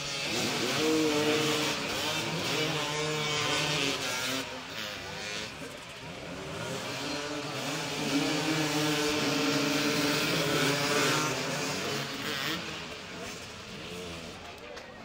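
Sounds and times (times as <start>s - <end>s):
motorcycles revving and accelerating: 0.0s - 15.0s.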